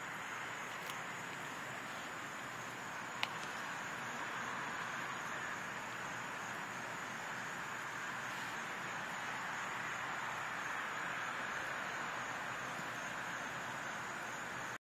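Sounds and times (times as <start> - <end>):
outdoor background noise: 0.0 - 14.8.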